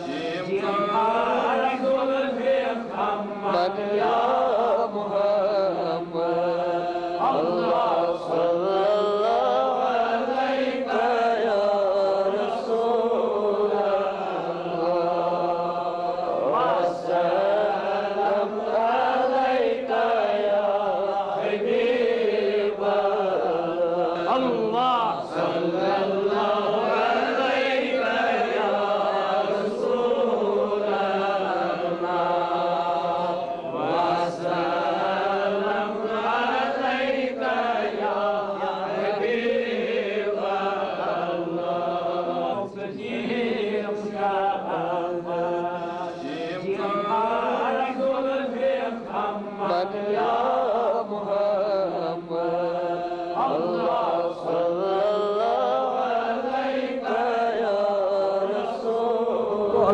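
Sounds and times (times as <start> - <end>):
melodic vocal chant: 0.0 - 59.9.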